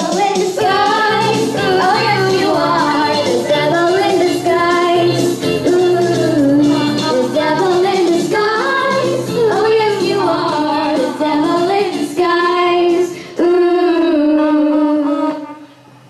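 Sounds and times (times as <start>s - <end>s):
girls singing together: 0.0s - 15.6s.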